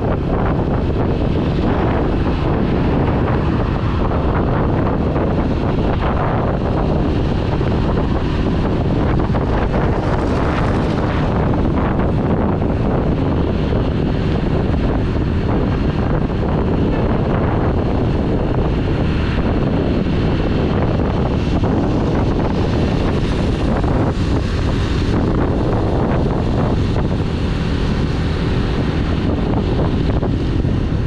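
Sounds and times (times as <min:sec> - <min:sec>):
motorcycle running: 0:00.0 - 0:31.0
wind rushing over microphone: 0:00.0 - 0:31.0.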